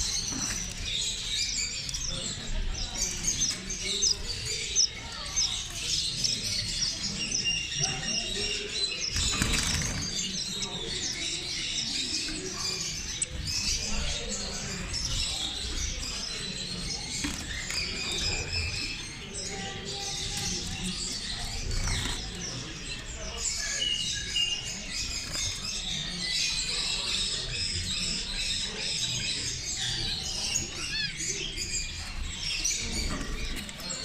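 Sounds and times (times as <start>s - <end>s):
cage birds chirping and trilling: 0.0s - 34.0s.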